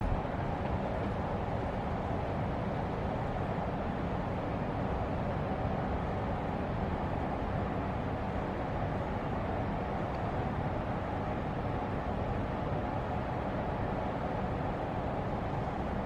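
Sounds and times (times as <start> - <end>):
railway station platform rumble: 0.0 - 16.0.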